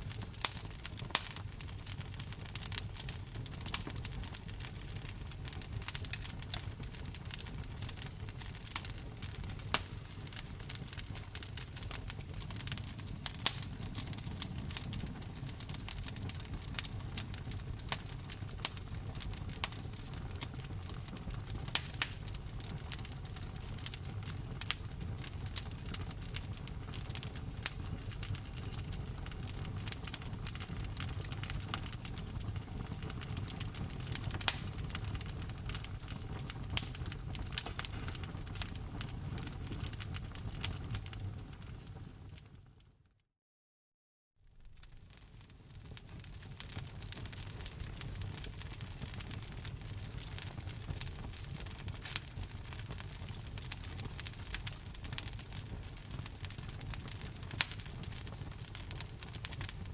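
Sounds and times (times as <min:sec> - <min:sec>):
wood fire crackling and popping: 0:00.0 - 0:42.8, 0:44.6 - 0:59.9.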